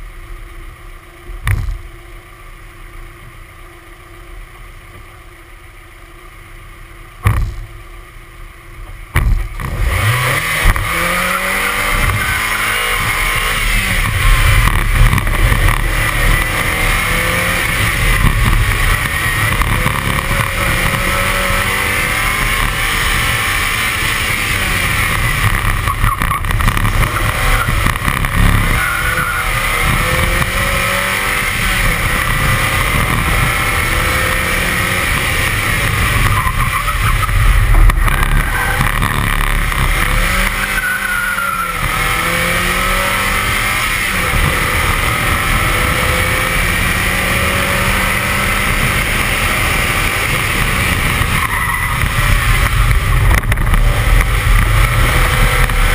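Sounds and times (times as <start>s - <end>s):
car engine idling: 0.0s - 55.9s
car engine revving hard: 9.2s - 55.9s.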